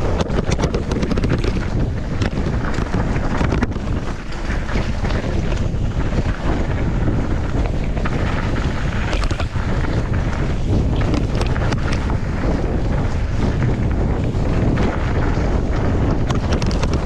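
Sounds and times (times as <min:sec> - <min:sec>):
bike knocks and rattles: 0:00.0 - 0:17.0
tyres on dry dirt: 0:00.0 - 0:17.0
wind buffeting microphone: 0:00.0 - 0:17.0.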